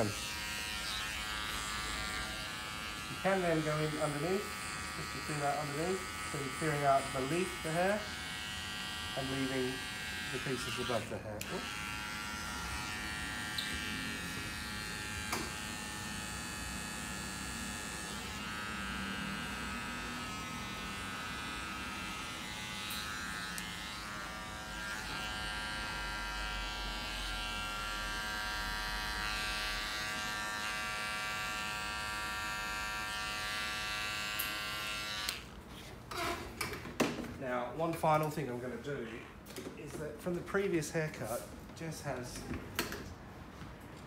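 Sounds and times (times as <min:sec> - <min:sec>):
electric hair trimmers buzzing: 0:00.0 - 0:35.6.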